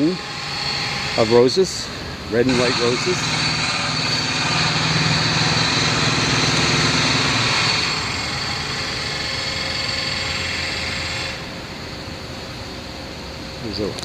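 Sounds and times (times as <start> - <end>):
engine running with mechanical hum: 0.0 - 14.0.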